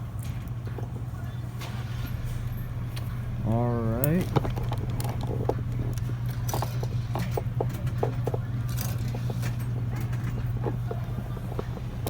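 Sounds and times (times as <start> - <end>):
vending machine hum: 0.0 - 12.0.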